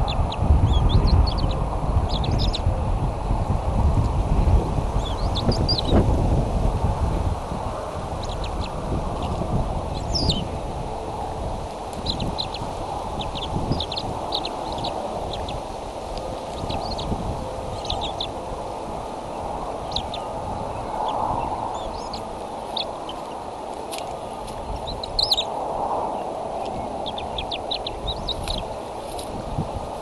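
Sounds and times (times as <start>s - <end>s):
wind rushing on microphone: 0.0s - 30.0s.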